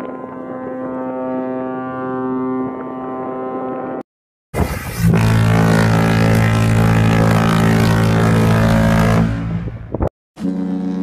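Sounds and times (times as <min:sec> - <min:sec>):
deep ship's horn blast: 0:00.0 - 0:04.0, 0:04.6 - 0:11.0.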